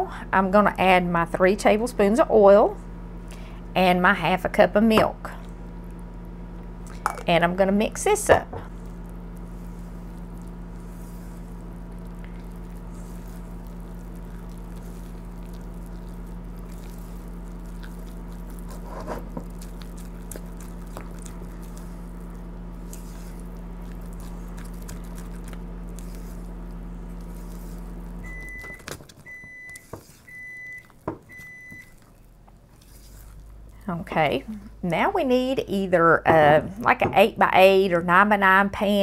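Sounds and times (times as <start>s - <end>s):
microwave oven humming: 0.0s - 39.0s.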